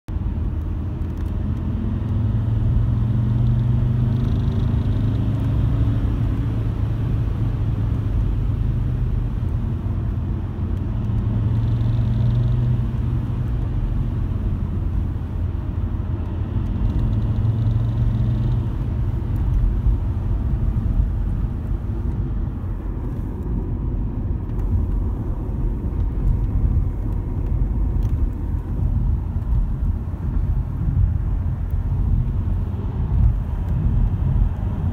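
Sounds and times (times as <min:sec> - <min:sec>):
car engine rumble: 0:00.1 - 0:34.9.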